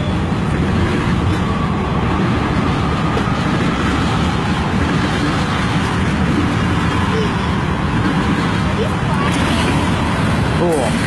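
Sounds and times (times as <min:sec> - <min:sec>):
freight train rumbling on rails: 0:00.0 - 0:11.0.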